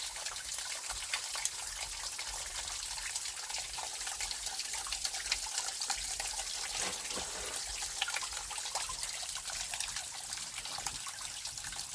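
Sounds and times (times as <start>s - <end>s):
stream trickling and splashing: 0.0s - 11.9s.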